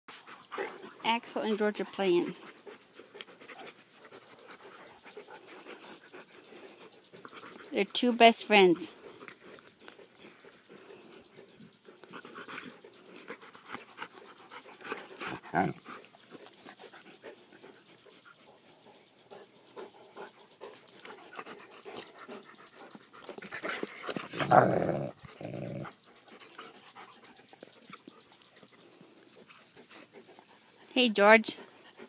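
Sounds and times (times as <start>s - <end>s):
dogs panting and snuffling: 0.1s - 32.0s.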